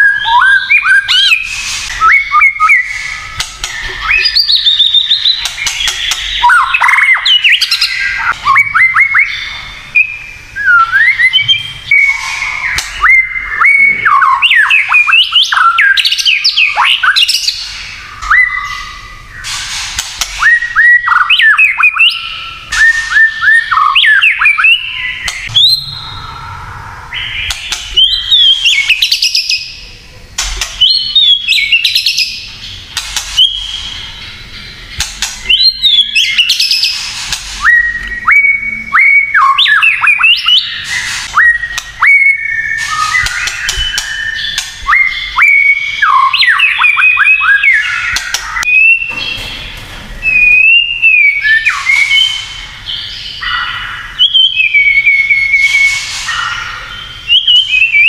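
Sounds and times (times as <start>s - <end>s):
bird singing whistled phrases: 0.0s - 19.6s, 20.4s - 26.5s, 27.1s - 29.8s, 30.7s - 32.5s, 33.4s - 34.3s, 35.4s - 49.2s, 50.2s - 58.0s.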